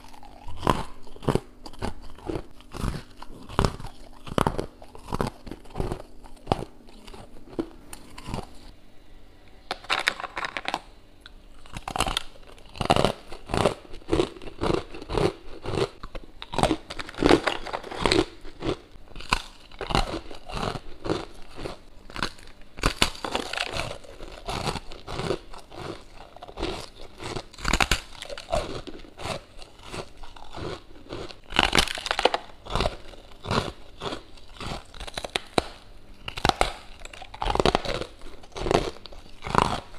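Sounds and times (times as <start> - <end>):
chewing crunchy frost: 0.0 - 8.8, 9.7 - 39.9.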